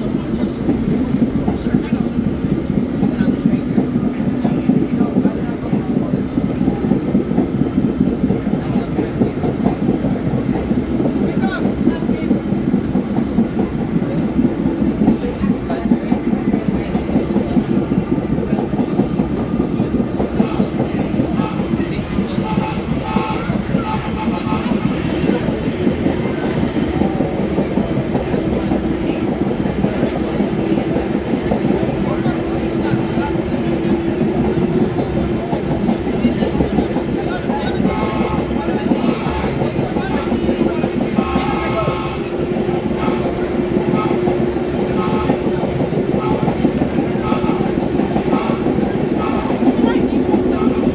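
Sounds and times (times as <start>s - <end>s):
subway train wheels rumbling: 0.0s - 50.9s
clatter over track joints: 0.1s - 50.9s.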